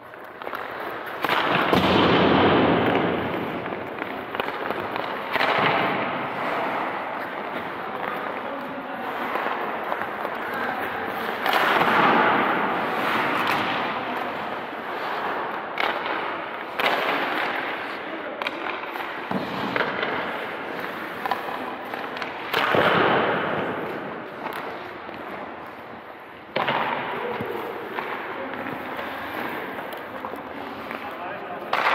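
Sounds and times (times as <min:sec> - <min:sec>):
skate blades scraping ice: 0:00.0 - 0:31.9.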